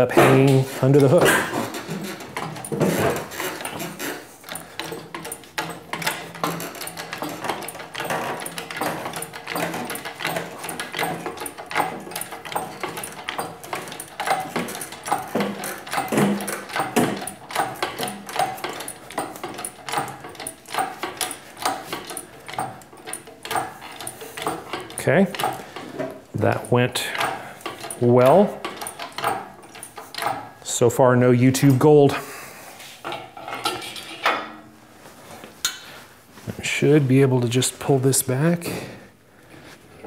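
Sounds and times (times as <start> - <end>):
metallic clicks and clanks of hoist: 0.0 - 32.2, 33.0 - 34.7.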